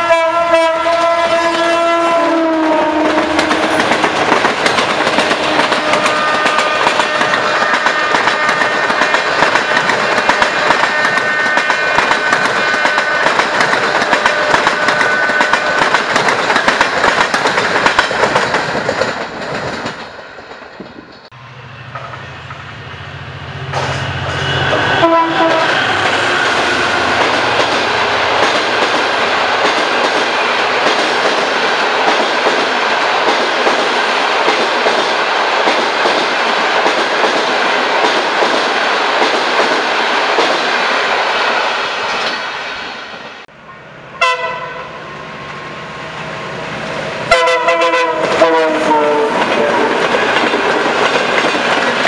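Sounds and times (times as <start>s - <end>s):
diesel locomotive engine hum: 0.0s - 52.0s
train wheels clattering: 2.7s - 22.2s, 23.7s - 41.2s, 47.3s - 52.0s.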